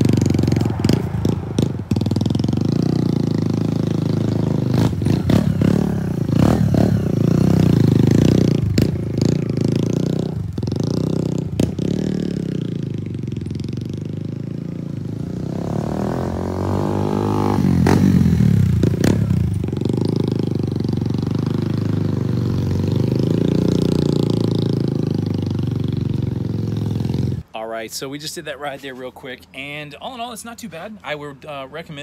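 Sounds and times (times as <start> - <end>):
small motorcycle engine passing: 0.0 - 27.4.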